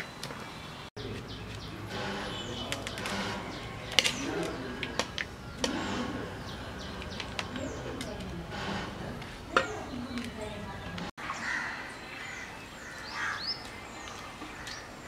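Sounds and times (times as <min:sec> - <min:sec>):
birds chirping: 0:00.0 - 0:15.0
faint distant voices: 0:00.4 - 0:15.0.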